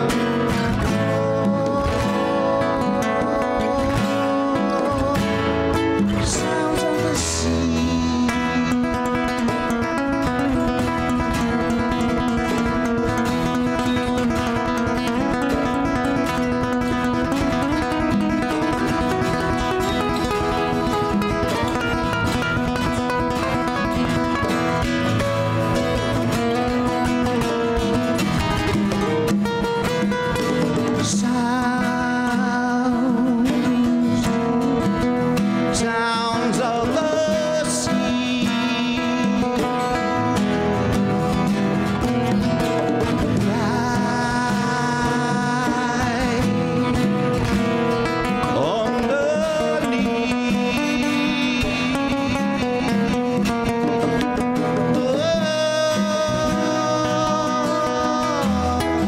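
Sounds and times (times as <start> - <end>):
acoustic guitars playing: 0.0 - 59.0
congas: 0.0 - 59.0
man singing: 0.0 - 59.0.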